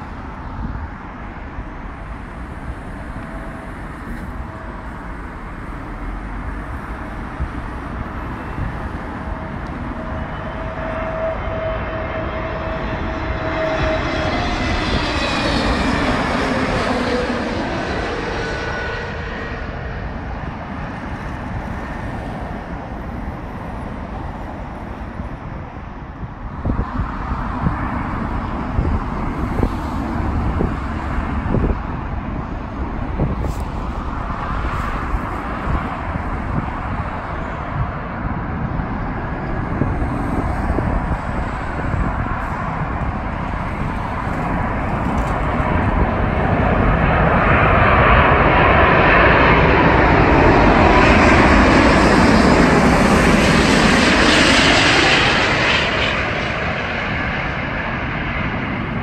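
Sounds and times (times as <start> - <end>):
jet airliner engines passing: 0.0 - 59.0
road traffic: 0.0 - 59.0.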